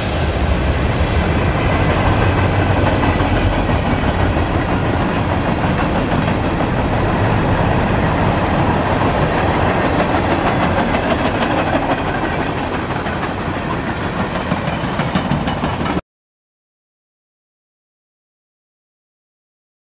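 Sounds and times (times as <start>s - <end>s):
freight train rolling on rails: 0.0s - 16.0s.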